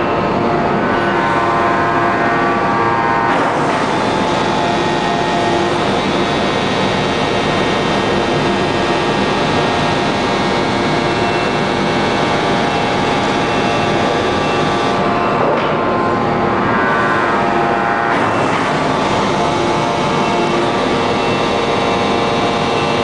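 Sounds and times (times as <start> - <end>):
machinery drone: 0.0 - 23.0
machinery whining tones: 0.0 - 23.0.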